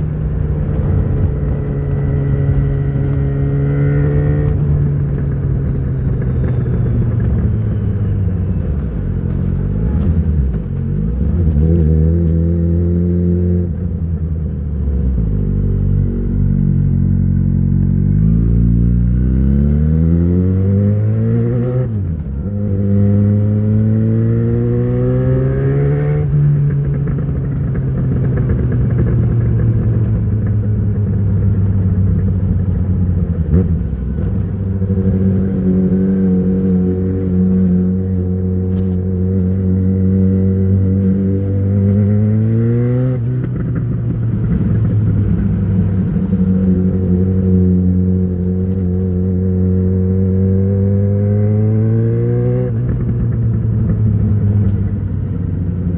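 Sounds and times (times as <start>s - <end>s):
motorcycle engine revving: 0.0s - 14.1s, 15.2s - 55.9s.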